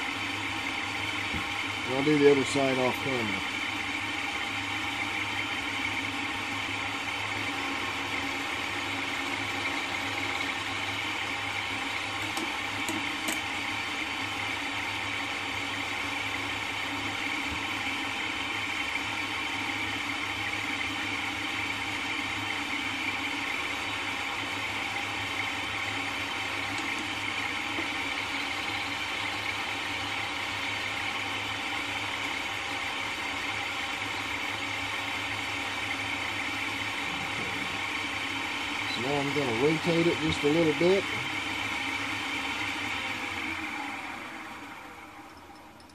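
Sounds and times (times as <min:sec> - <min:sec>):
milling machine running: 0:00.0 - 0:45.9.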